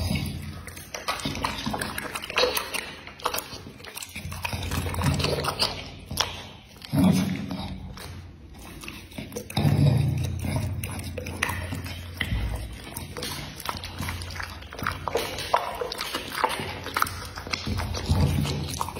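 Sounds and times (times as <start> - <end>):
dog eating and chewing: 0.0 - 18.9.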